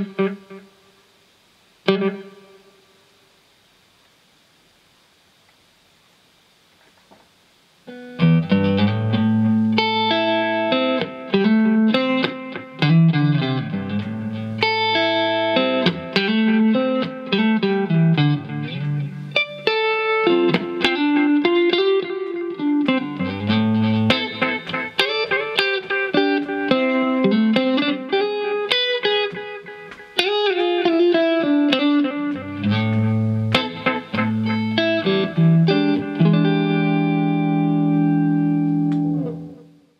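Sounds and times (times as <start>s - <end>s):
electric guitar with reverb: 0.0s - 3.2s, 7.8s - 39.9s.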